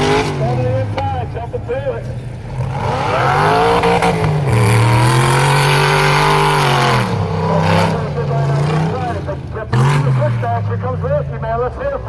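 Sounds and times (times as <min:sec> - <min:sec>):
truck engine at high revs: 0:00.0 - 0:12.0.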